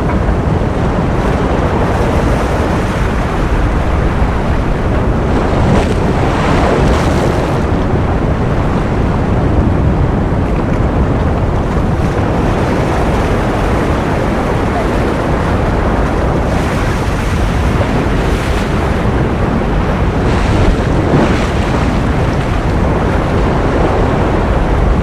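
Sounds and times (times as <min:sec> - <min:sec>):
ocean surf: 0:00.0 - 0:25.0.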